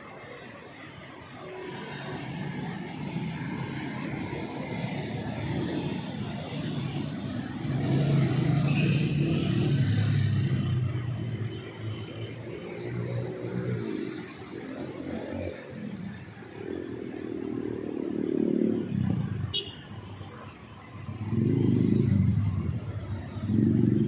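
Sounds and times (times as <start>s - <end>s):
vehicles passing close by: 0.0s - 24.0s.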